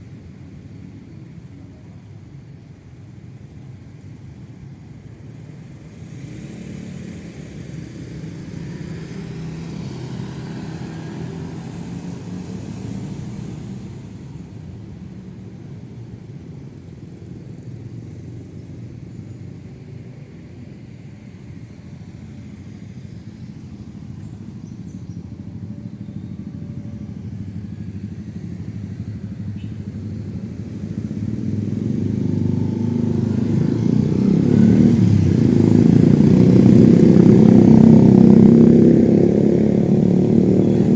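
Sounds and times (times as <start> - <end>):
traffic passing: 0.0 - 40.9.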